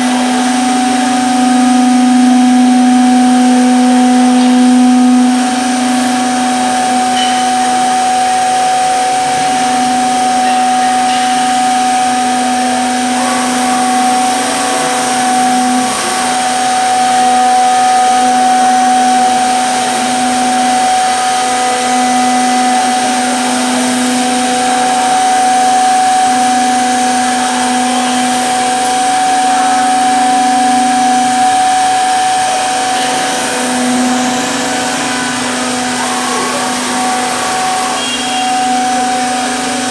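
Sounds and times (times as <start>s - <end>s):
router spindles whining: 0.0s - 39.9s.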